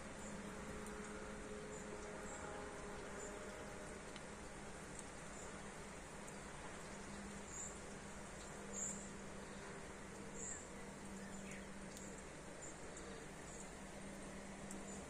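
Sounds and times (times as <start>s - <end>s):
low steady hum: 0.0s - 15.0s
rain hiss: 0.0s - 15.0s.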